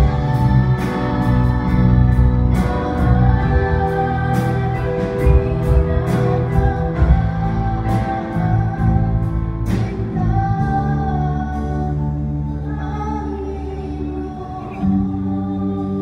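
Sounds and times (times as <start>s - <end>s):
band playing: 0.0s - 16.0s
women singing: 0.0s - 16.0s.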